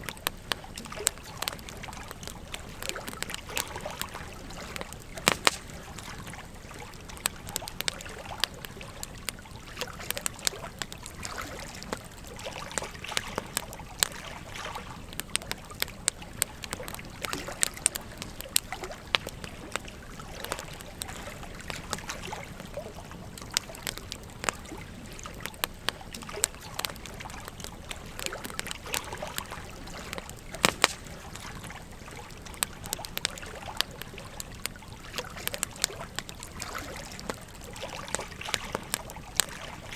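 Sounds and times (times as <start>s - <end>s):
gentle stream babbling: 0.0s - 39.9s
wood fire crackling and popping: 0.0s - 39.9s.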